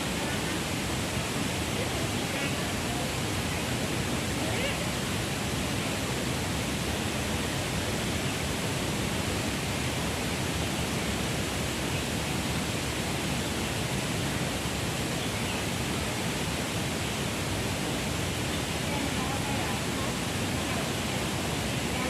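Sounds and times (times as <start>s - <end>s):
steady broadband rushing noise: 0.0s - 22.0s.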